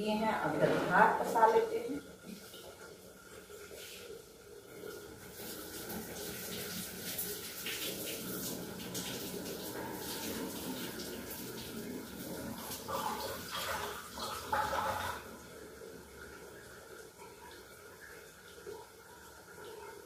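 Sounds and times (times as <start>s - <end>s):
water pouring into steel sink: 2.2s - 20.0s.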